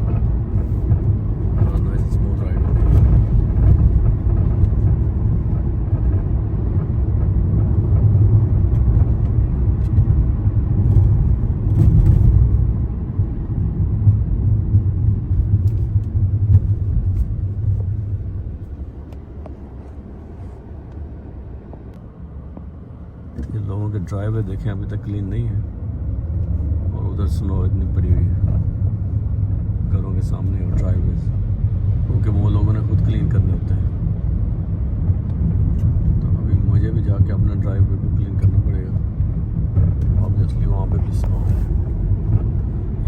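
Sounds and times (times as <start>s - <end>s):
car engine rumble: 0.0s - 43.0s
tyre noise on road: 0.0s - 43.0s.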